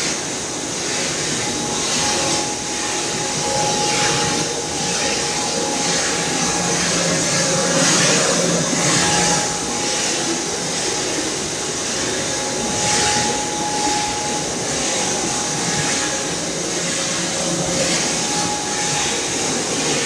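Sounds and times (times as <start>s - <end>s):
rhythmic machine hiss: 0.0s - 20.0s.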